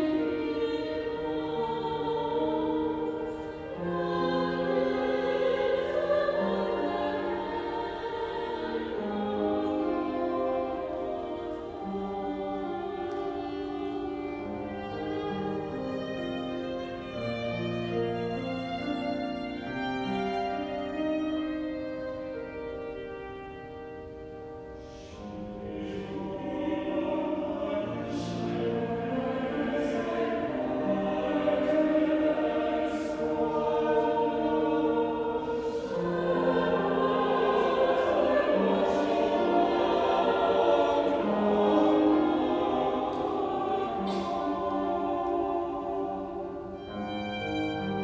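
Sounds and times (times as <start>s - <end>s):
choir singing held chords: 0.0s - 23.2s, 24.1s - 48.0s.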